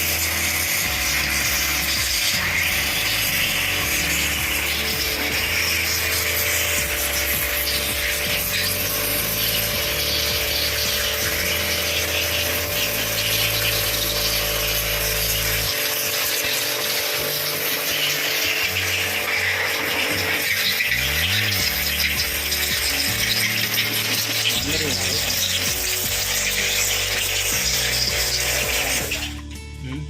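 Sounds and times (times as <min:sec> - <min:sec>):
machine running with hiss: 0:00.0 - 0:29.4.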